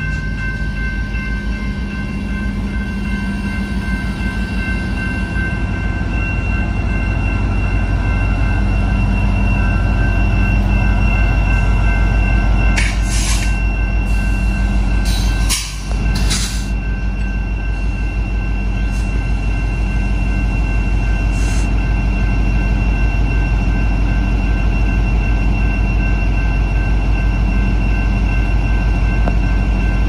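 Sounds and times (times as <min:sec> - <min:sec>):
locomotive engine rumble: 0:00.0 - 0:30.0.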